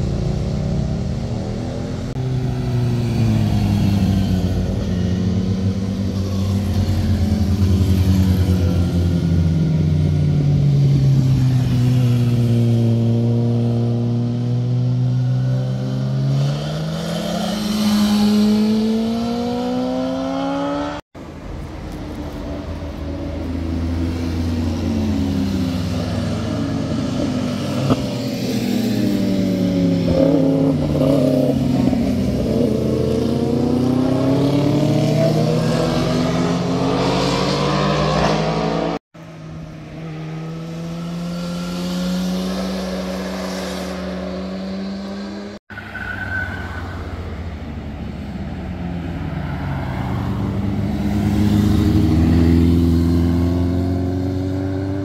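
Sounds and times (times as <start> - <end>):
motorcycle engines: 0.0 - 55.0.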